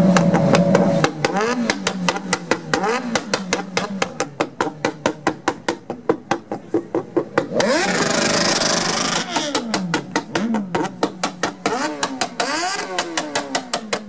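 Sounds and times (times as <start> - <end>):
motorcycle engine revving: 0.0 - 5.3, 7.4 - 14.0
exhaust pops and bangs: 0.0 - 14.0.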